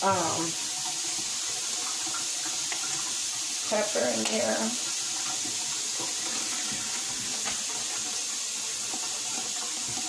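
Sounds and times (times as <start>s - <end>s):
tap running into sink: 0.0s - 8.3s
dishes being washed: 0.0s - 10.0s.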